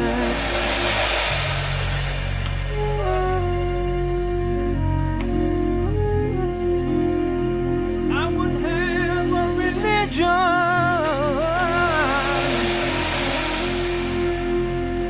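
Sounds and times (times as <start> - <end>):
cymbal-like hissing wash: 0.0 - 15.0
held keyboard chords: 0.0 - 15.0
high melody with vibrato: 0.0 - 15.0.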